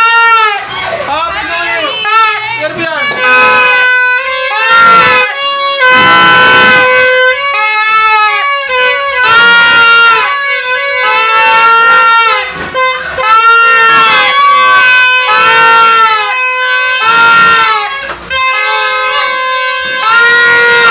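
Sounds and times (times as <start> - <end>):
noisemaker horns honking: 0.0 - 20.9
steady held horn note: 0.0 - 20.9.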